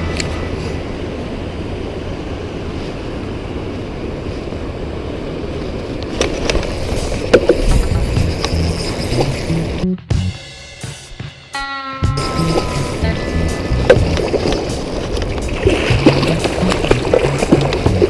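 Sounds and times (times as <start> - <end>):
wind on microphone: 0.0 - 9.8, 12.1 - 18.0.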